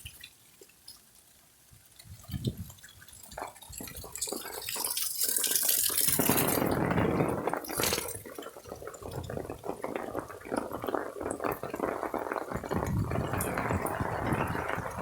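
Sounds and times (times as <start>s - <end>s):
rainwater dripping and splashing: 0.0s - 15.0s.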